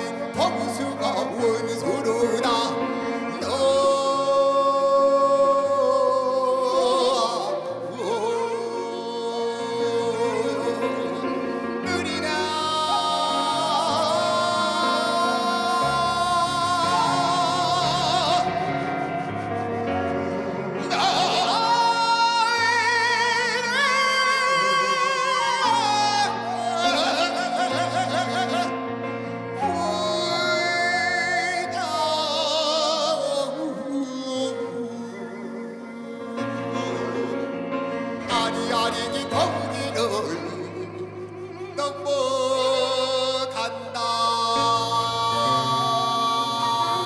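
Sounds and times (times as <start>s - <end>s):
man singing with vibrato: 0.0s - 47.0s
piano: 0.0s - 47.0s.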